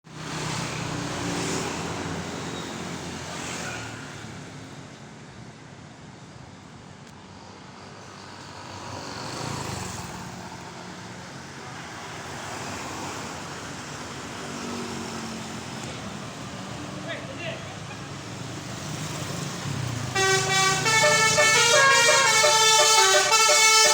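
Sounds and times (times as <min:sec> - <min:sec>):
vehicles passing with tyre noise: 0:00.0 - 0:23.9.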